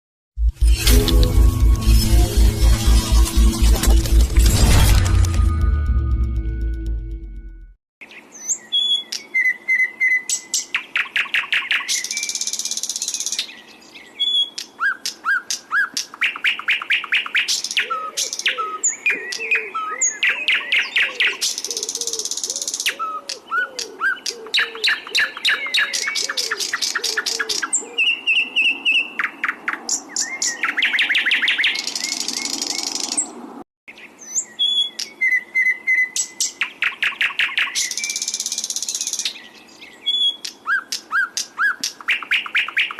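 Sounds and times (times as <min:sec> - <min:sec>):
songbird singing: 0:08.0 - 0:42.9.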